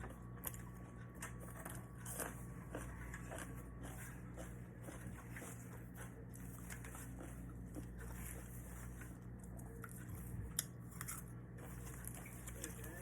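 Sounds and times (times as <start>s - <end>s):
person chewing: 0.0s - 13.0s
steady low hum: 0.0s - 13.0s.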